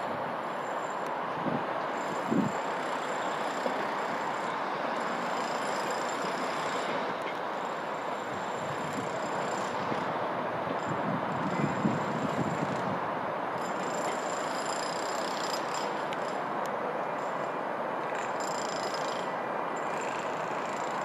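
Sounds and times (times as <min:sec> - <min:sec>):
train wheels and diesel engines rumbling: 0:00.0 - 0:21.0.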